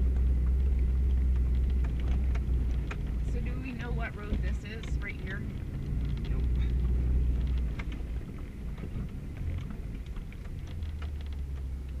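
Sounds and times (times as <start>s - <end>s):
engine and tyres rumbling: 0.0s - 12.0s
ticks and rattles: 0.0s - 12.0s.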